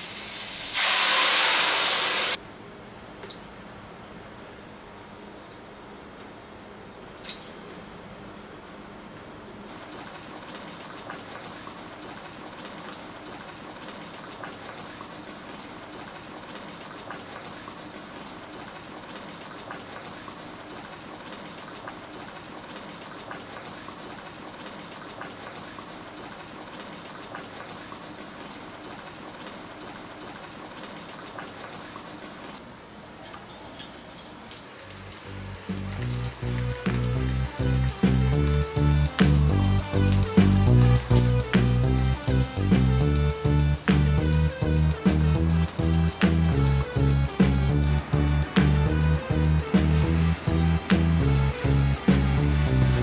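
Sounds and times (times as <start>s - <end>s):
broth bubbling and crackling: 9.7s - 53.0s.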